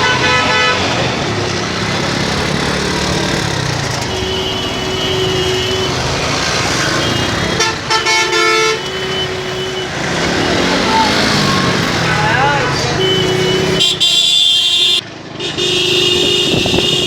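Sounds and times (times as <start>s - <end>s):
vehicle horns honking: 0.0s - 1.2s, 3.2s - 17.0s
road traffic noise: 0.0s - 17.0s.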